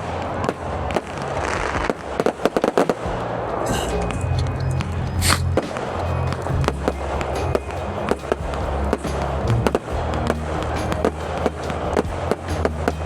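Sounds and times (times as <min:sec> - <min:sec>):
fireworks cracks and bangs: 0:00.0 - 0:13.0
music with bass line: 0:00.0 - 0:13.0.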